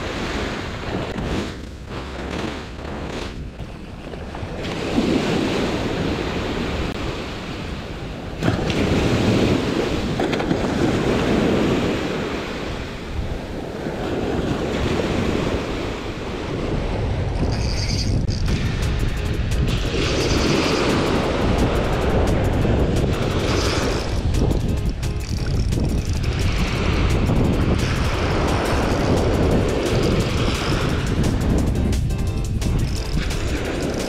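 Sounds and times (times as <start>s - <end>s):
surf washing onto shore: 0.0s - 2.1s, 4.6s - 17.4s, 18.4s - 31.8s
wind buffeting microphone: 0.0s - 34.0s.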